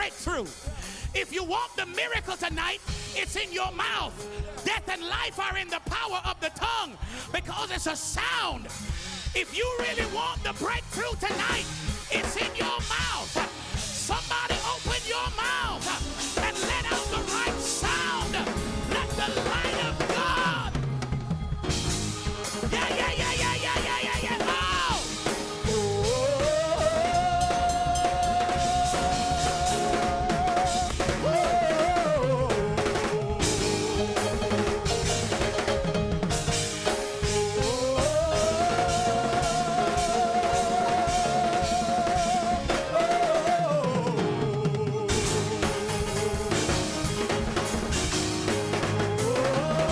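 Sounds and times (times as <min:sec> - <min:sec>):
church worship music: 0:00.0 - 0:49.9
drum kit beat: 0:00.0 - 0:49.9.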